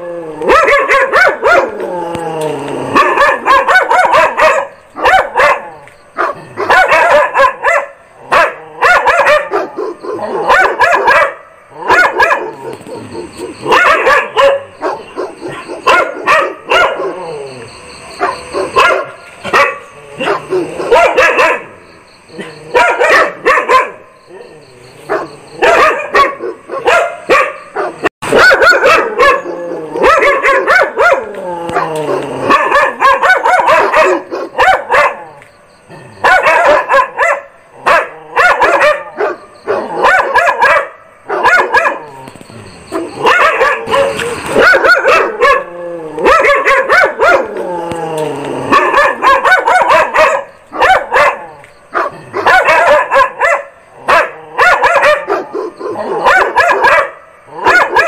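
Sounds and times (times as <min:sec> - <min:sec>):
dog barking: 0:00.4 - 0:01.8, 0:02.9 - 0:17.3, 0:18.1 - 0:35.5, 0:36.1 - 0:42.1, 0:42.8 - 0:47.6, 0:48.6 - 0:58.0.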